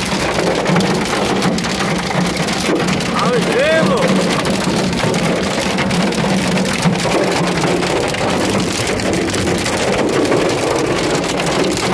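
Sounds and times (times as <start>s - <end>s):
rain and hail pelting: 0.0s - 11.9s.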